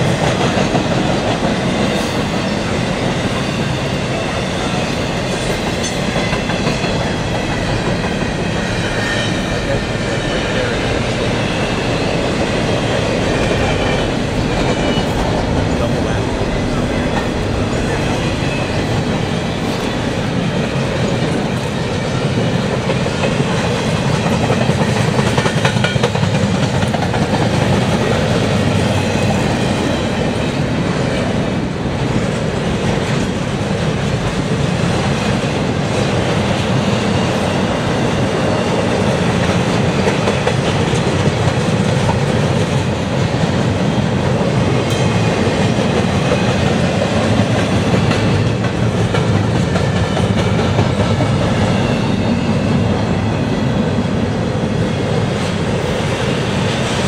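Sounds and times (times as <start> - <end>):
steel wheels on rails: 0.0 - 57.0.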